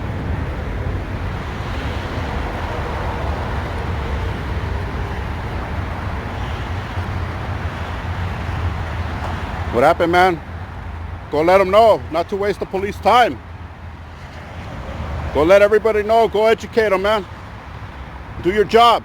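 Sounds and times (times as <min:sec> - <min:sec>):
low rumble of vehicle noise: 0:00.0 - 0:19.0.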